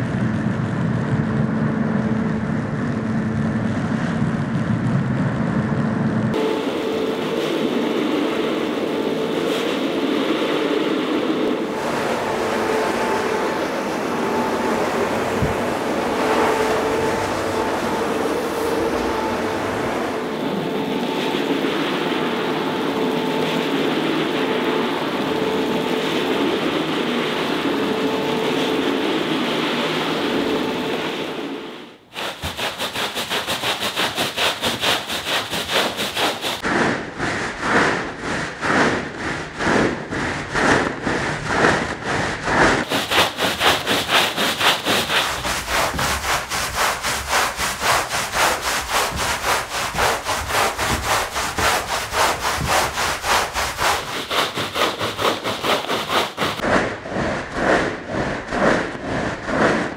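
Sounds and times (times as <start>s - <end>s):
carpet cleaning machine humming: 6.3s - 56.6s
push broom scrubbing wet rug: 8.2s - 31.2s, 32.1s - 59.9s.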